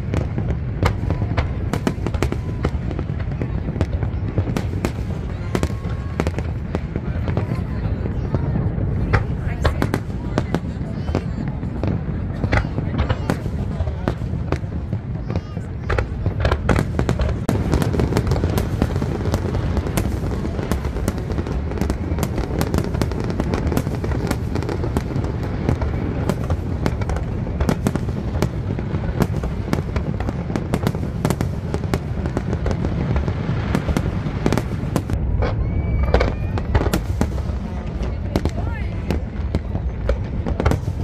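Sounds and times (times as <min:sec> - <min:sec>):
fireworks booming: 0:00.0 - 0:41.0
fireworks cracks and crackles: 0:00.0 - 0:41.0.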